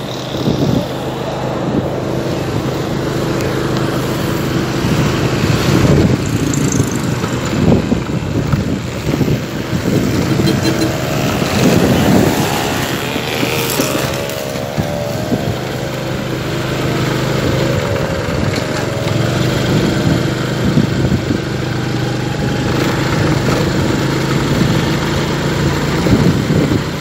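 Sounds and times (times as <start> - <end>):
motorcycle engine hum: 0.0 - 27.0
wind noise on microphone: 0.0 - 27.0.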